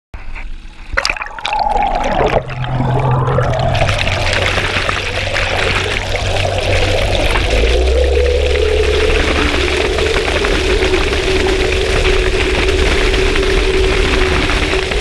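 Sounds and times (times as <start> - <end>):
low steady drone: 0.2 - 15.0
propeller churning water underwater: 0.2 - 15.0.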